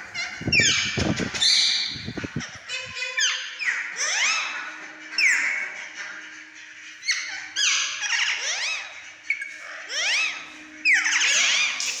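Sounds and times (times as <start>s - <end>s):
parakeets screeching: 0.0s - 12.0s.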